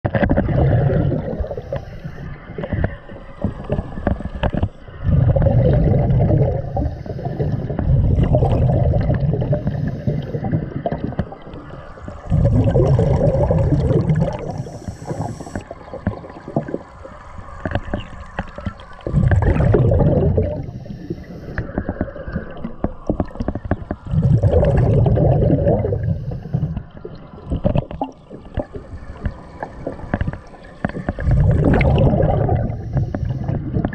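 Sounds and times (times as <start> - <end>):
muffled underwater noise: 0.1 - 33.9
rumbling gurgling bubble bursts: 0.1 - 33.9.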